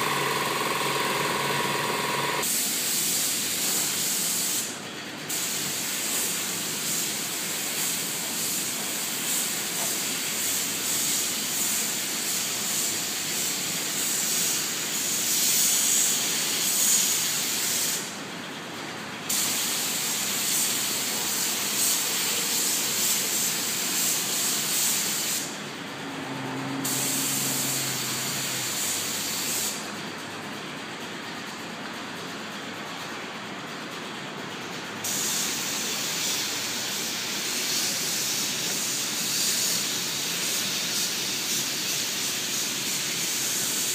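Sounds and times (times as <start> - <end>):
paint spray gun hissing: 0.0 - 4.7, 5.3 - 18.1, 19.3 - 25.6, 26.8 - 29.8, 35.0 - 43.9.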